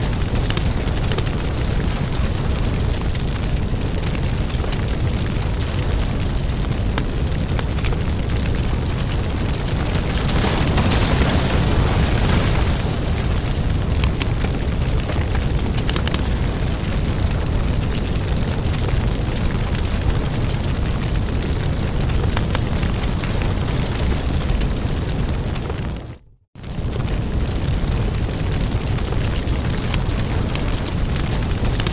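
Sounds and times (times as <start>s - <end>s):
fire crackling and popping: 0.0s - 31.9s.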